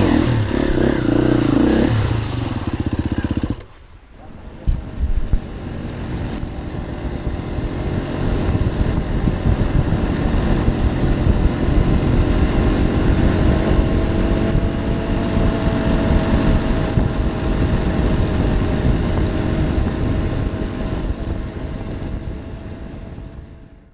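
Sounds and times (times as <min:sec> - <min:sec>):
dirt bike engine running: 0:00.0 - 0:23.9.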